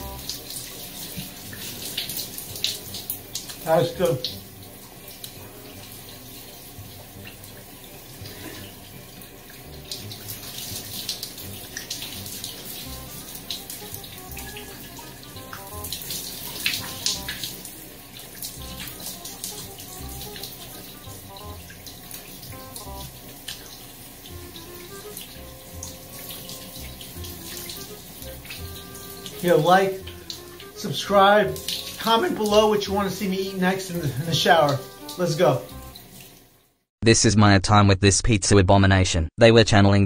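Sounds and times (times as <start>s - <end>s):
shower spray splashing: 0.0s - 36.6s.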